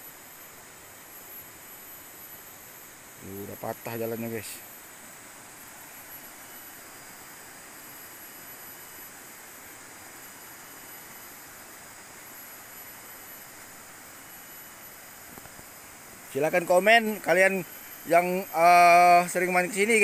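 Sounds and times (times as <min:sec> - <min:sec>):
high-pitched insect tones: 0:00.0 - 0:20.0.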